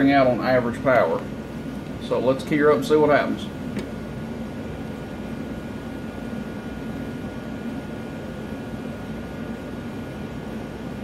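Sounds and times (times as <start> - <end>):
steady hiss and low hum: 0.0 - 11.0.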